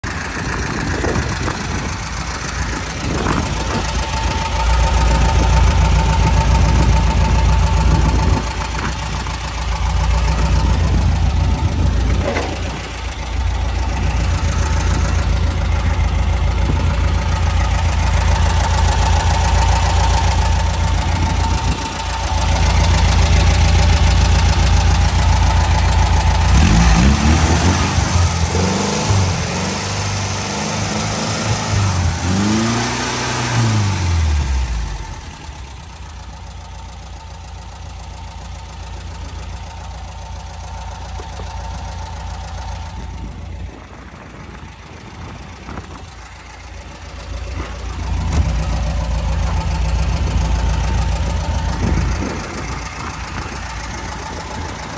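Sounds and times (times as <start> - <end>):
van engine idling with whine: 0.0 - 54.9.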